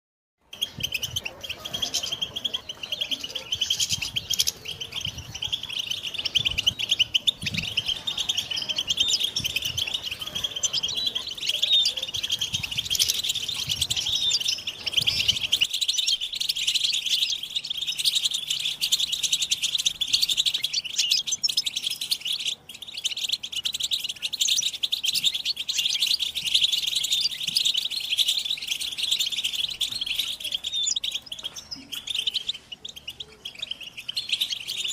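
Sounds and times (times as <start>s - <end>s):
finches twittering chorus: 0.5s - 34.9s.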